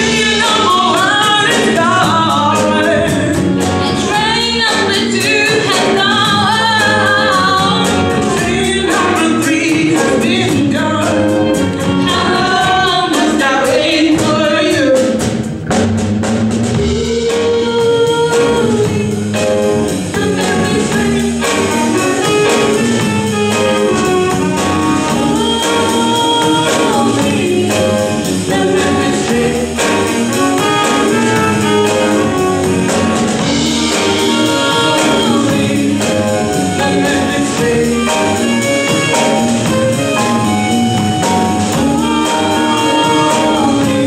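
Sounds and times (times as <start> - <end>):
women singing soul song: 0.0 - 15.3, 16.8 - 44.0
band with steady beat: 0.0 - 44.0
electric guitar: 0.0 - 44.0.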